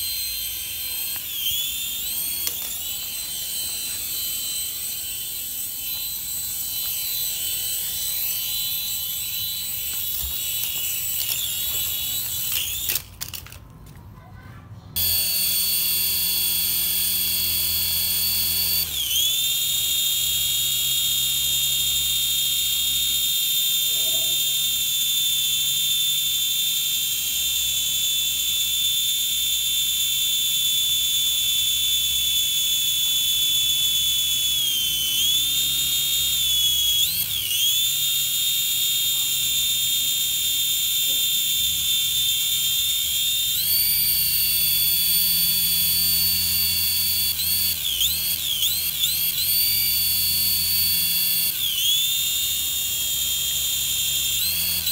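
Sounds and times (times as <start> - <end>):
toy helicopter rotor whine: 0.0 - 54.9.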